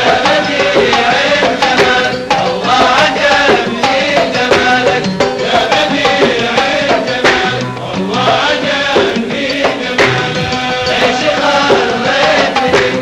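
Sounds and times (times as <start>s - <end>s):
male chorus singing: 0.0s - 13.0s
percussion: 0.0s - 13.0s
rhythmic hand clapping: 0.0s - 13.0s.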